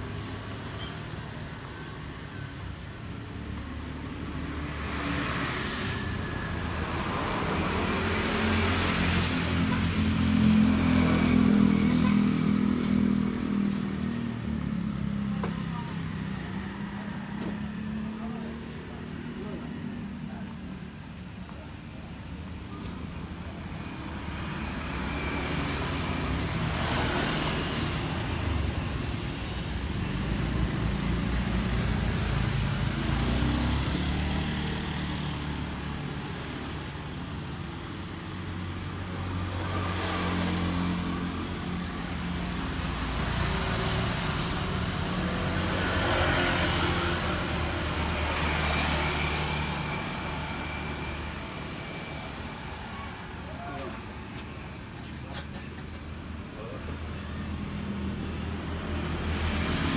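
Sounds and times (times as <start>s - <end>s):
passing vehicle engines: 0.0s - 59.9s.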